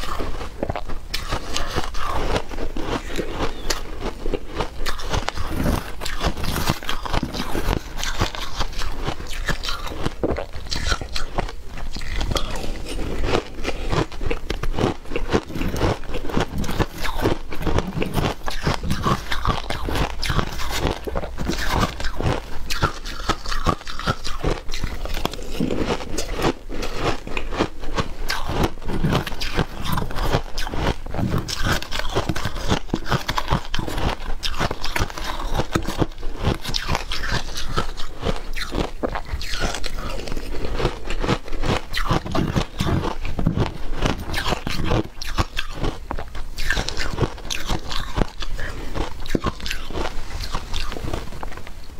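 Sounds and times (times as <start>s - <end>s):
ice crunched between teeth: 0.0s - 51.6s.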